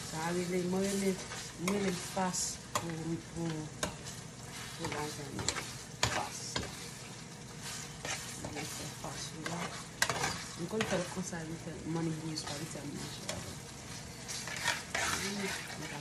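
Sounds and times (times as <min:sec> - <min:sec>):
meat sauce sizzling in a pan: 0:00.0 - 0:16.0
spoon scraping a pan: 0:00.0 - 0:16.0.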